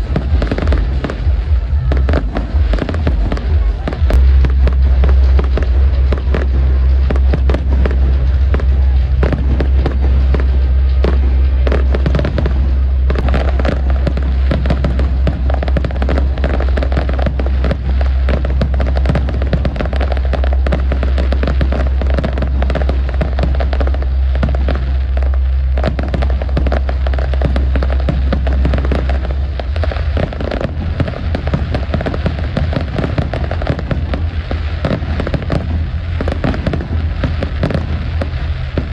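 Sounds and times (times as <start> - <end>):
deep continuous rumble: 0.0 - 38.9
fireworks bursting and crackling: 0.0 - 38.9.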